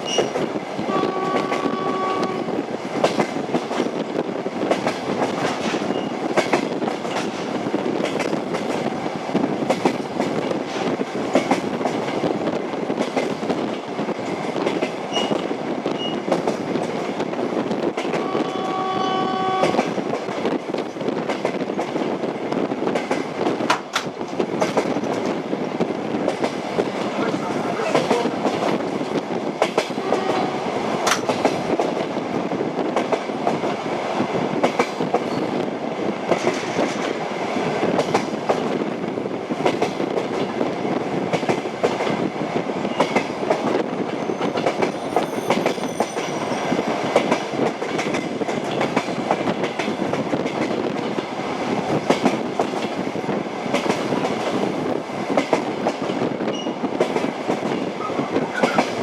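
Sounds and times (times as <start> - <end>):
train wheels clacking: 0.0 - 22.1, 22.8 - 25.4, 26.2 - 32.2, 34.6 - 35.6, 36.2 - 59.0
train rumble: 0.0 - 59.0.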